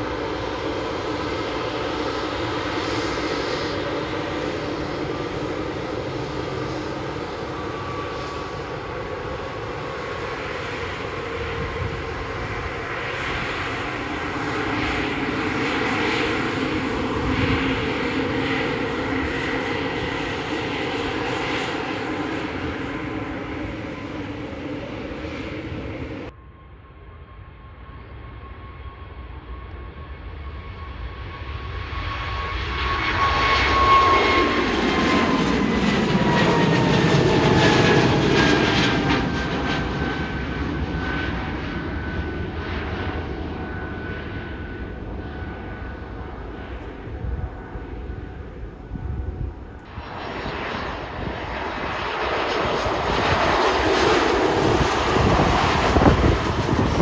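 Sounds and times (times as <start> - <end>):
jet engines roaring with whine: 0.0 - 57.0.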